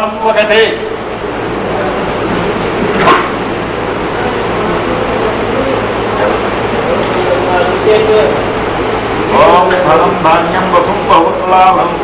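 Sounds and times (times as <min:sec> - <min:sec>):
high-pitched pulsing chirring tone: 0:00.0 - 0:12.0
steady hiss: 0:00.0 - 0:12.0.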